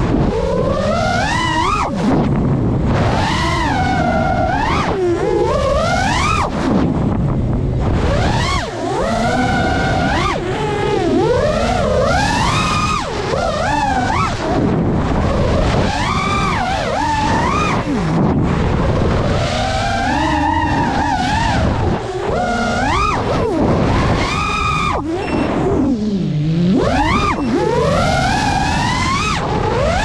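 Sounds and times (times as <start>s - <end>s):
quadcopter motors whining: 0.0s - 30.0s
steady rushing noise: 0.0s - 30.0s.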